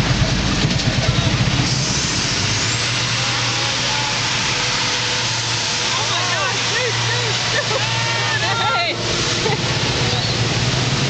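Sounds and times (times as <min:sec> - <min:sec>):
rickshaw engine running: 0:00.0 - 0:11.0
street traffic noise: 0:00.0 - 0:11.0.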